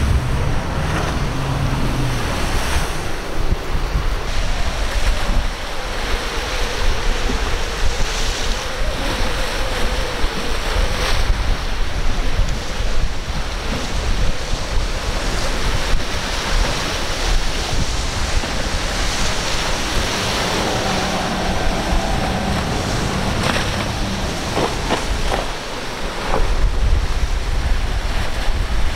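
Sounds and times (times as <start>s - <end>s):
boat engines droning: 0.0s - 28.9s
breaking surf: 0.0s - 28.9s
wind rumbling on microphone: 0.0s - 28.9s.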